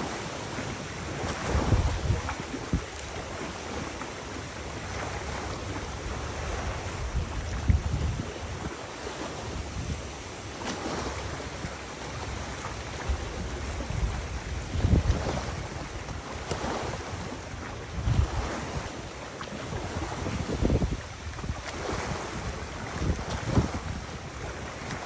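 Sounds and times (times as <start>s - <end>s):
moving water: 0.0s - 25.0s
rushing wind: 0.0s - 25.0s
wind buffeting microphone: 0.0s - 25.0s.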